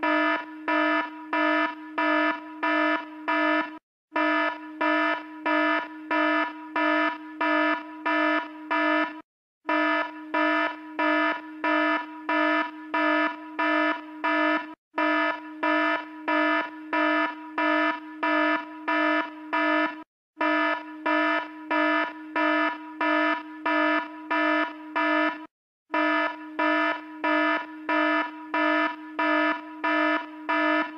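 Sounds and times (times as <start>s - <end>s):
harsh buzzy alarm beeping: 0.0s - 30.9s.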